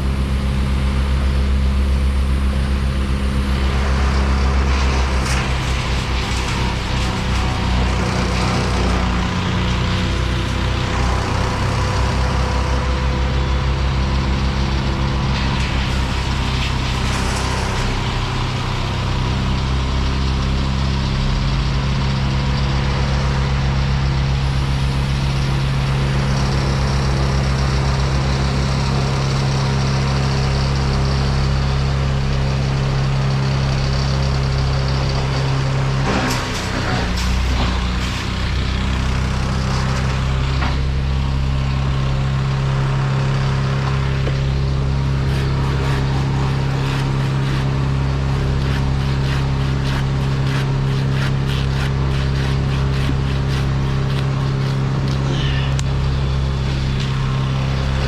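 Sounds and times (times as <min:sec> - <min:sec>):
heavy engine running: 0:00.0 - 0:58.0.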